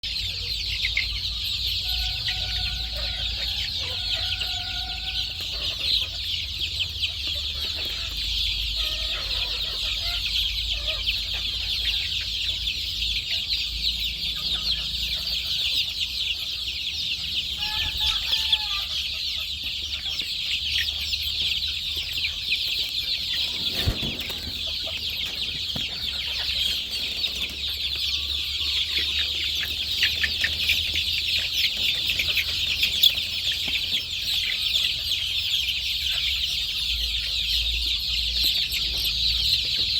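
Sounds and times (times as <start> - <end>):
chickens peeping and clucking: 0.0 - 39.9
drawn-out chicken calls: 0.0 - 39.9.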